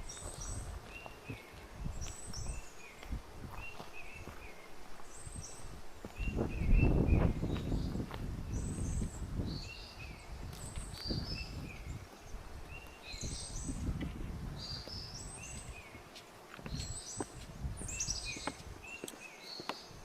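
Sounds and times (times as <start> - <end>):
footsteps crunching on trail: 0.0 - 20.0
songbird singing high phrases: 0.0 - 20.0.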